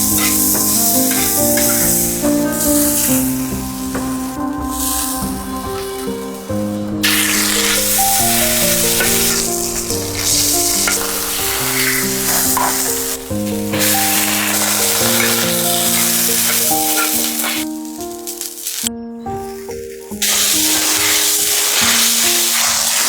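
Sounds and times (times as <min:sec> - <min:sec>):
stirring in a pan: 0:00.0 - 0:06.4, 0:07.0 - 0:23.0
food sizzling in a pan: 0:00.0 - 0:23.0
simple melody background music: 0:00.0 - 0:23.0.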